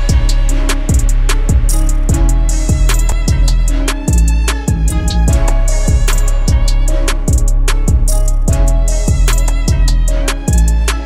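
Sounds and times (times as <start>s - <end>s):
deep sustained bass: 0.0s - 11.0s
steady drum beat: 0.0s - 11.0s.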